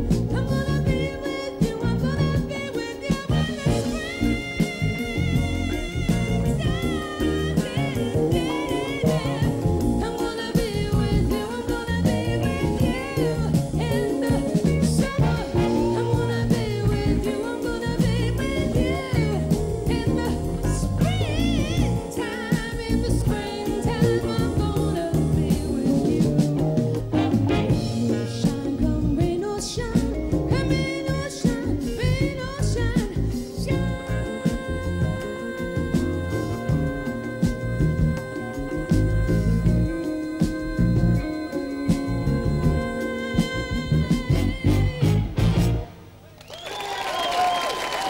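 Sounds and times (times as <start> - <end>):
woman singing jazz ballad: 0.0 - 45.9
jazz band playing: 0.0 - 46.4.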